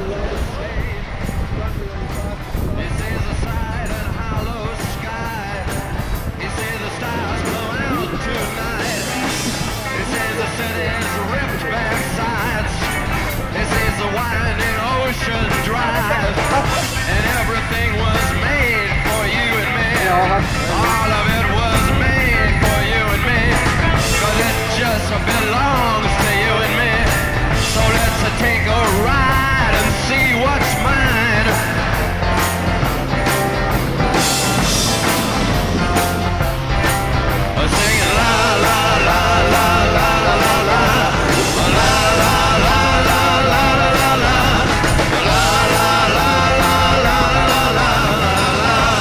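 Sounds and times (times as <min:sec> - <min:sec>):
rock song with singing: 0:00.0 - 0:49.0
steady drum beat: 0:00.0 - 0:49.0.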